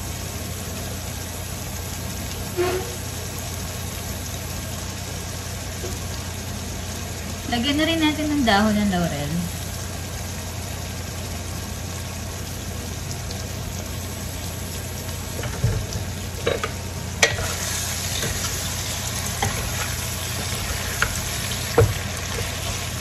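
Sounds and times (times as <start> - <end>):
food simmering and sizzling in pot: 0.0 - 23.0.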